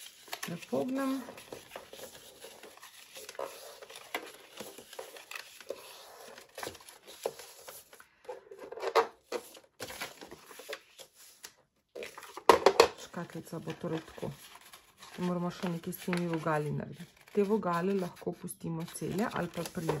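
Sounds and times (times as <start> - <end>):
paper rustling: 0.0 - 20.0.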